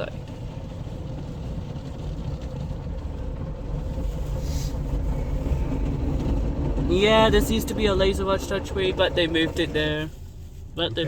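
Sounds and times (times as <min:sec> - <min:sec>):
car wash low rumble: 0:00.0 - 0:11.0.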